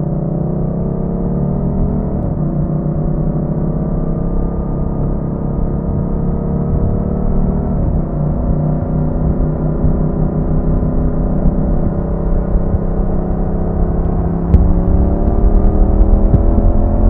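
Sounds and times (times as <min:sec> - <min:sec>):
motorcycle engine accelerating: 0:00.0 - 0:17.0
wind rumble: 0:00.8 - 0:17.0.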